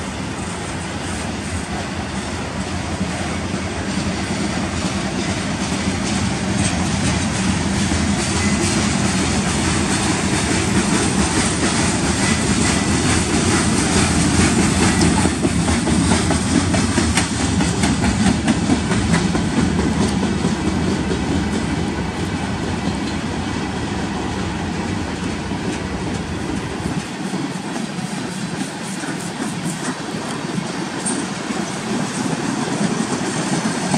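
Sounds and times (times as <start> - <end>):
clickety-clack over rail joints: 0.0 - 33.9
steel wheels rolling on rails: 0.0 - 33.9.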